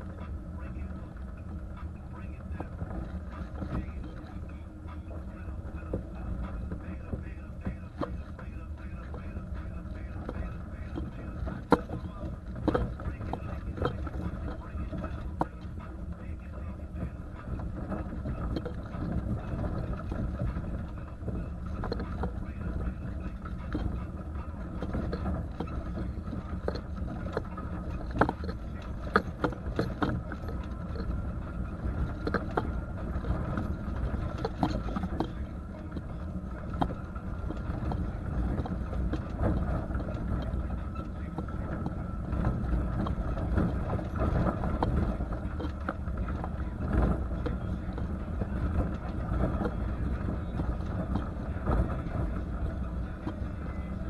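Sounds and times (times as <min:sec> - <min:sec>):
car engine drone: 0:00.0 - 0:54.0
tyre and road noise: 0:00.0 - 0:54.0.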